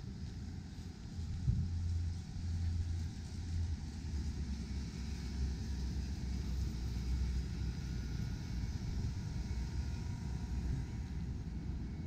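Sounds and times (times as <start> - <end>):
city ambience rumble: 0.0 - 12.0.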